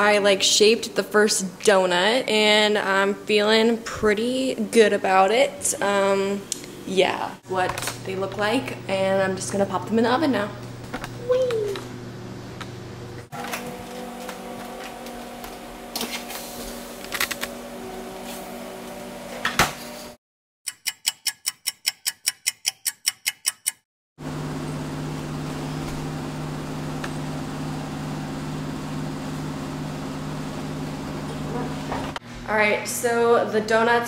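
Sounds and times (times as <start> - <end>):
oven hum: 0.0 - 20.2, 24.2 - 34.0.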